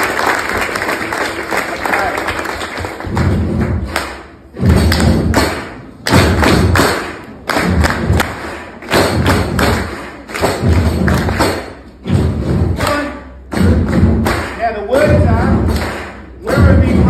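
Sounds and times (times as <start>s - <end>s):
crowd thumping in unison: 2.7s - 17.0s.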